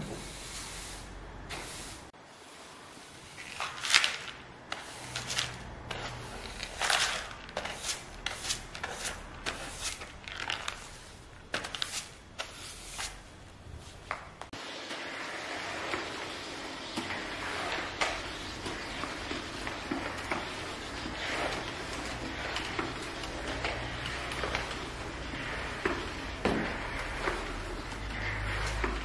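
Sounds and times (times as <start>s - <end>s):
steam mop pushed over floor: 0.0s - 10.1s, 13.8s - 29.0s
hand brush sweeping floor: 0.0s - 29.0s.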